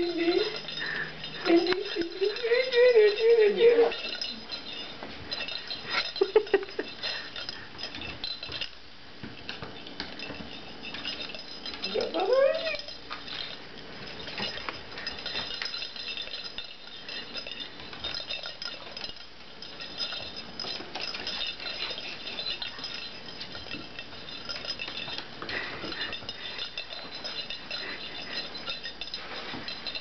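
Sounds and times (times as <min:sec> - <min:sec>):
small bell jingling: 0:00.0 - 0:30.0.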